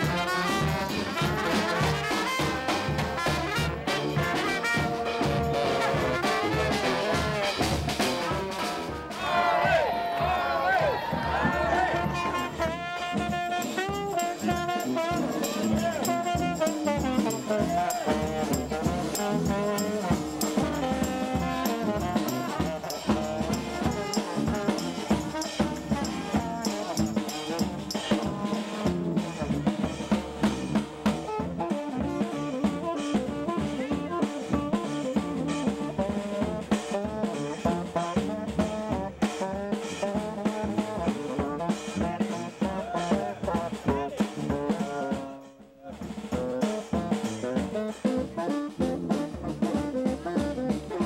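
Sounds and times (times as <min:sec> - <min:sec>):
drum kit beat: 0:00.0 - 0:51.0
trombone: 0:00.0 - 0:51.0
trumpet: 0:00.0 - 0:51.0.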